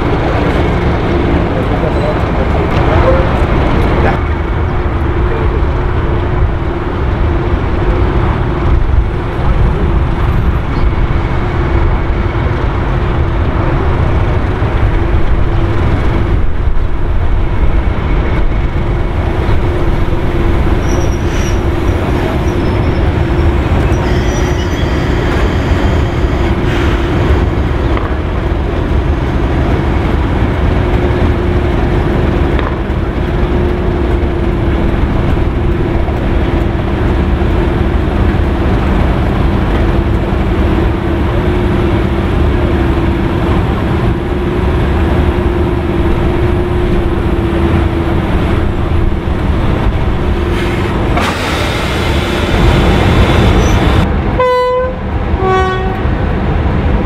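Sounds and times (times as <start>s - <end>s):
diesel locomotive engine running: 0.0s - 57.0s
train running along rails: 0.0s - 57.0s.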